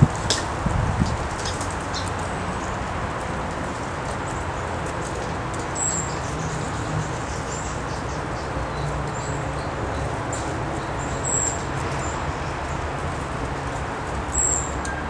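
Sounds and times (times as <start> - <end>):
songbirds chirping: 0.0 - 15.0
steady background noise: 0.0 - 15.0.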